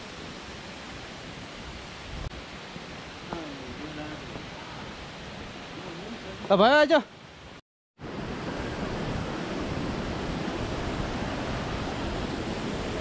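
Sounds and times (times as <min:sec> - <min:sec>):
wind rumble on microphone: 0:00.0 - 0:06.1, 0:07.3 - 0:13.0
waterfall rushing: 0:00.0 - 0:13.0.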